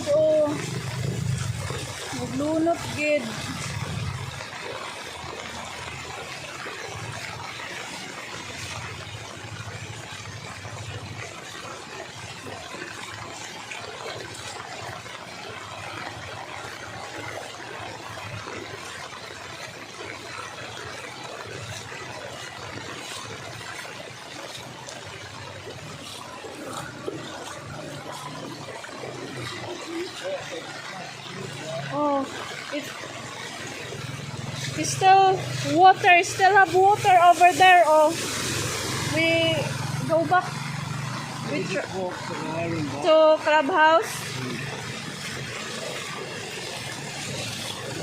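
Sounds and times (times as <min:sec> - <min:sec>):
floodwater rushing and trickling: 0:00.0 - 0:48.0.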